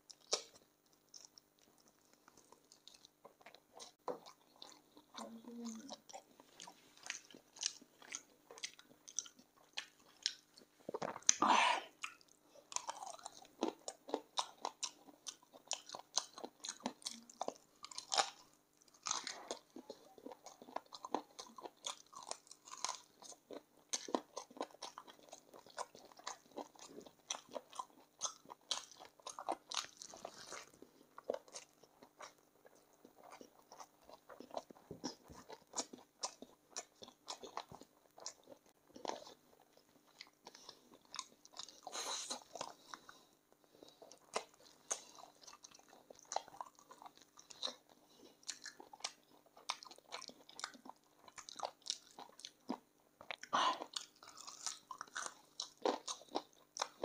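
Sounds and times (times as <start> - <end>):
person chewing crunchy food: 0.1 - 57.0.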